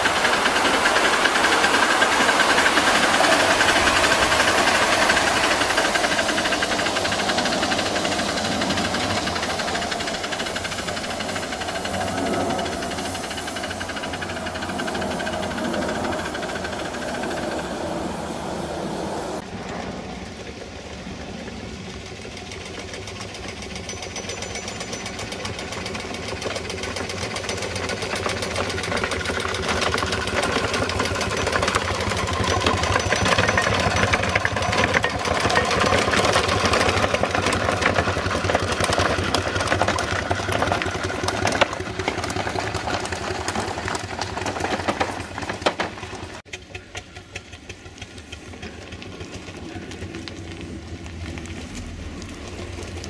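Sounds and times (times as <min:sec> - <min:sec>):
miniature steam engine running: 0:00.0 - 0:53.0.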